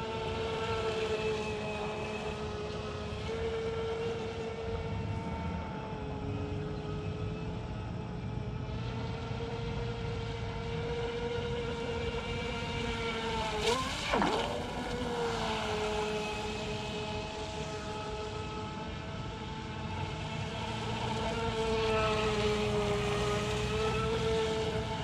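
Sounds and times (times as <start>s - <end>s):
model boat motor whining: 0.0s - 25.0s.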